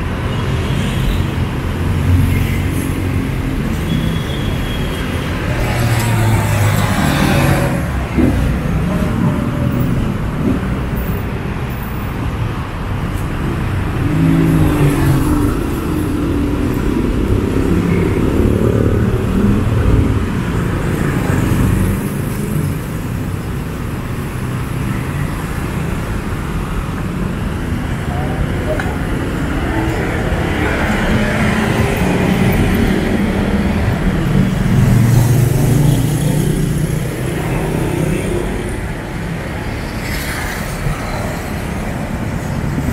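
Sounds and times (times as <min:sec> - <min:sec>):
road noise: 0:00.0 - 0:42.9
vehicle engines passing: 0:00.0 - 0:42.9.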